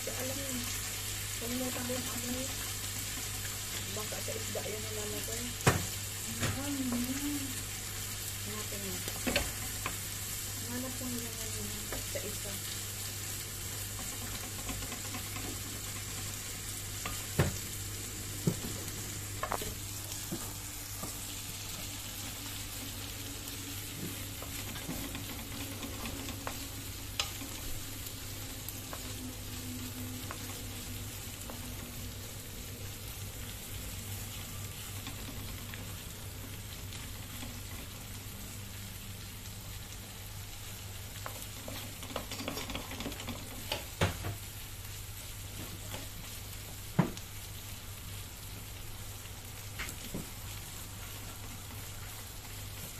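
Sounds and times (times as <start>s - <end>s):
meat sizzling in a pan: 0.0s - 52.9s.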